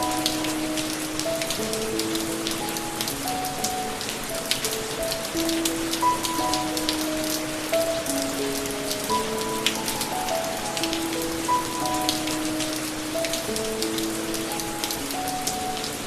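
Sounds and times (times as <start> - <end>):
rain drops ticking: 0.0 - 16.0
slow instrumental melody: 0.0 - 16.0.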